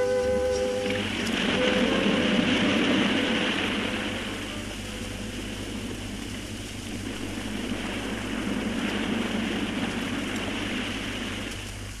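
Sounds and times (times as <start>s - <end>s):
low hum: 0.0s - 12.0s
steady rumbling: 0.0s - 12.0s.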